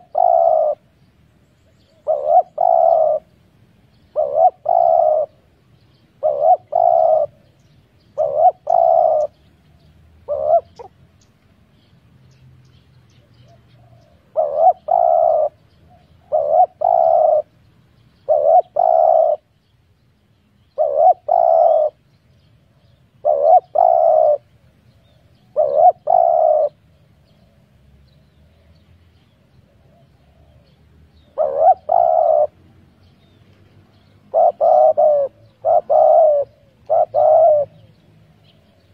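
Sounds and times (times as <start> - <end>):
dove cooing: 0.0 - 0.9, 1.8 - 3.4, 4.0 - 11.2, 13.2 - 17.6, 18.2 - 19.5, 20.8 - 22.0, 22.7 - 27.6, 29.3 - 38.9.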